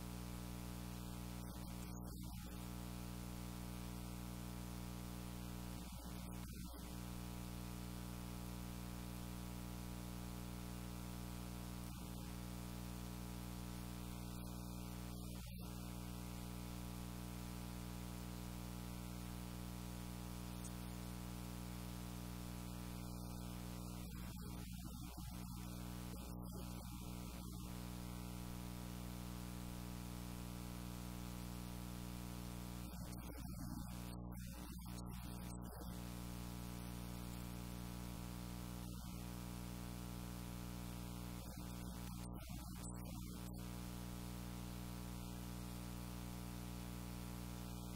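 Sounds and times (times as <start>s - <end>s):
constant hiss: 0.0s - 47.9s
electrical mains hum: 0.0s - 47.9s.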